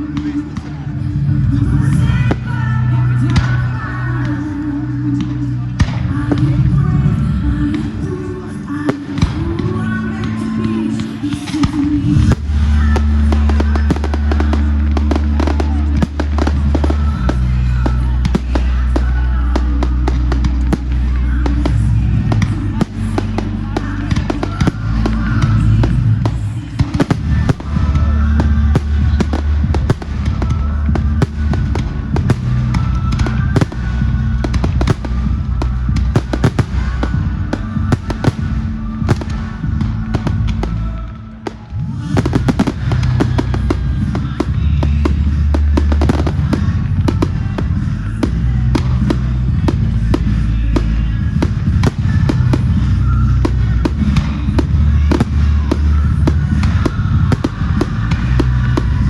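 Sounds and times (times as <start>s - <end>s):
music with heavy bass: 0.0s - 59.0s
fireworks bursting and crackling: 8.8s - 59.0s.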